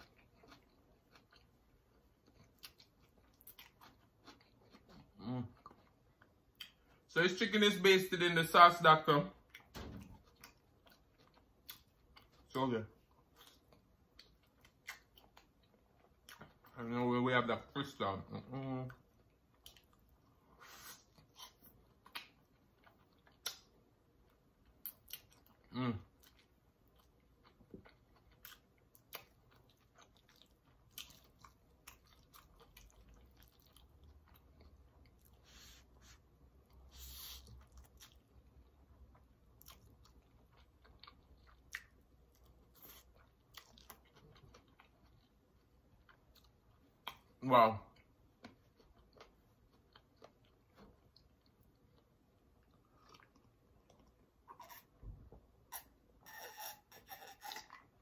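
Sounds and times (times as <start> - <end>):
chewing with wet mouth clicks: 0.0 - 7.1, 9.4 - 16.8, 18.9 - 20.3, 21.0 - 35.4, 37.4 - 54.9.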